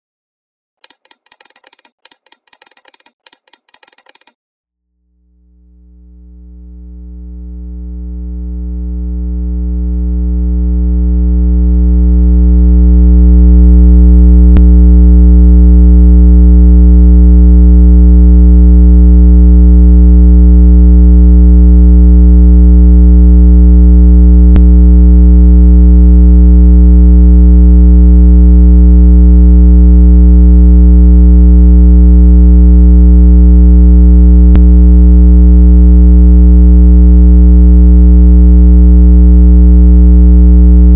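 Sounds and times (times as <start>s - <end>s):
low electronic tone: 5.4s - 40.9s.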